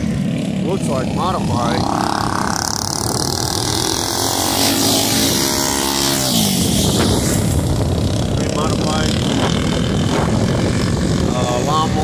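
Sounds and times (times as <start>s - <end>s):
racing lawnmower engines: 0.0s - 12.0s.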